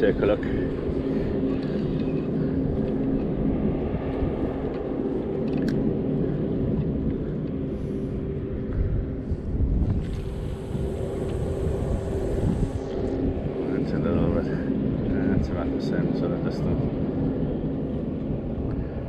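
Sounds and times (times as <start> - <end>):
boat engine droning: 0.0 - 19.0
wind on microphone: 0.0 - 19.0.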